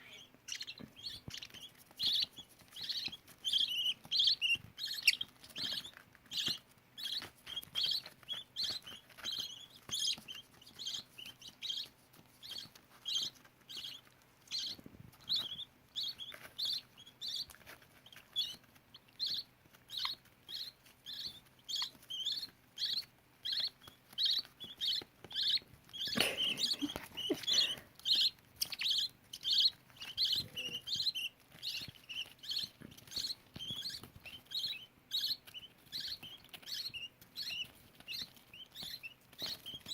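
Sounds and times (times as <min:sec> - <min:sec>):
chicks cheeping: 0:00.0 - 0:39.9.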